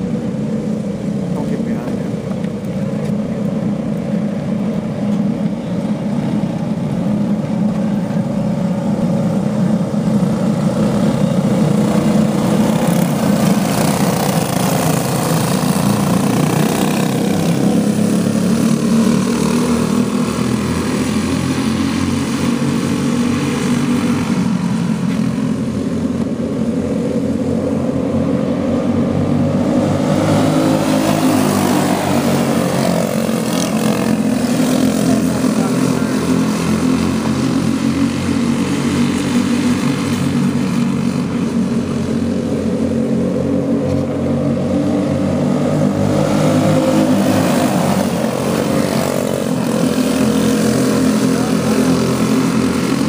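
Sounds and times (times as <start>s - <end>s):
go-kart engines at high revs: 0.0s - 53.0s
karts passing by: 0.0s - 53.0s.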